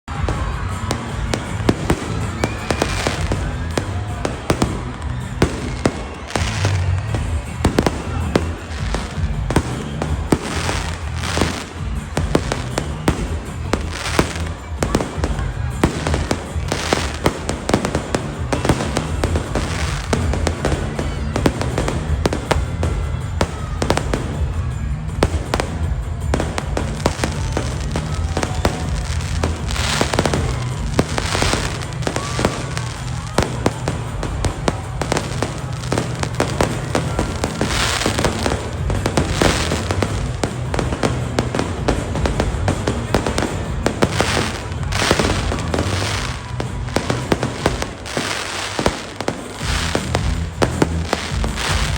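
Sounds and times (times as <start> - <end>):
fireworks bangs and crackling: 0.0 - 51.9
music playing: 0.0 - 51.9.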